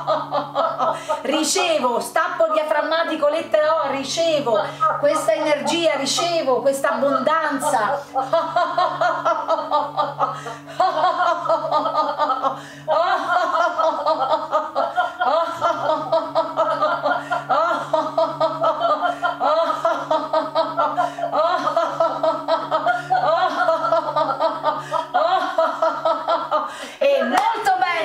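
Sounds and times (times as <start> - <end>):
steady low drone: 0.0 - 27.1
woman laughing rhythmically: 0.0 - 28.0.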